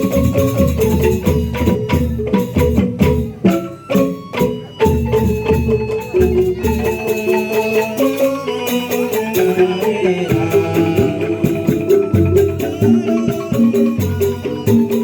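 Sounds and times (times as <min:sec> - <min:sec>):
mallet percussion ensemble music: 0:00.0 - 0:15.0.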